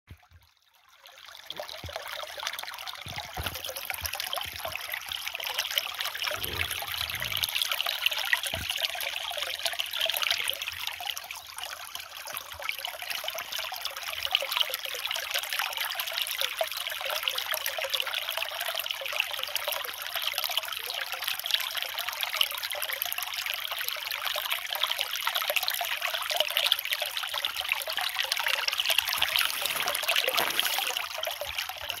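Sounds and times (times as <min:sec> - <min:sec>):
brook trickling over stones: 0:00.1 - 0:32.0.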